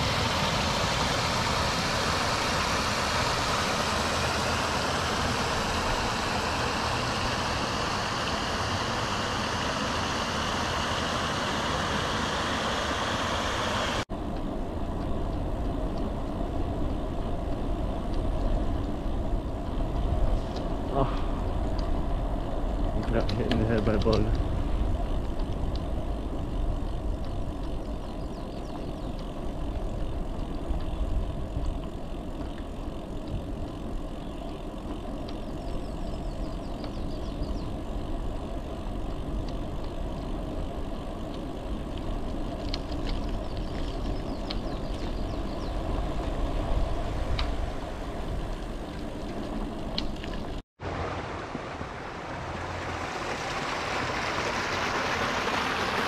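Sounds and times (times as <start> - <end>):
bicycle tyres rolling: 0.0 - 56.0
wind rumbling on microphone: 0.0 - 56.0.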